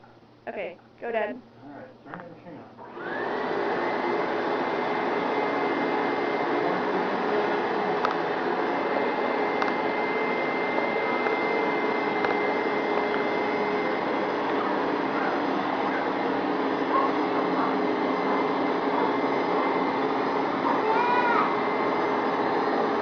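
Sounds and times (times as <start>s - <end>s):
carpet cleaner running: 2.8s - 23.0s.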